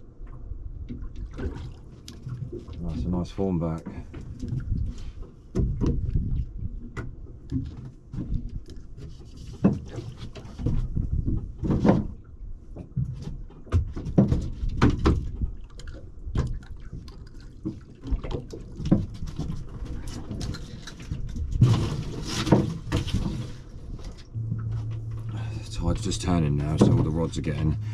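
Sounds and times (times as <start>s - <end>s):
knocks and clicks on a boat: 0.0s - 27.9s
water sloshing and splashing: 0.0s - 27.9s.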